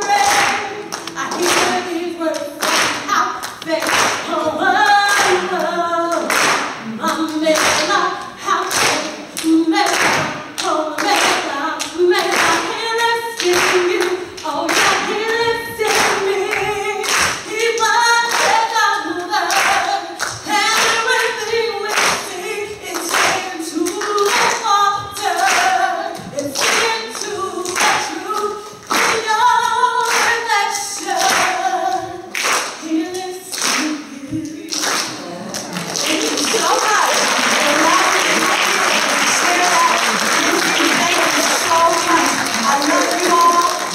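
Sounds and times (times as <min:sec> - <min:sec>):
hand clapping: 0:00.0 - 0:04.4, 0:05.0 - 0:08.0, 0:08.6 - 0:12.8, 0:13.4 - 0:15.2, 0:15.8 - 0:18.8, 0:19.5 - 0:31.6, 0:32.3 - 0:43.9
woman leading group singing: 0:00.0 - 0:43.9.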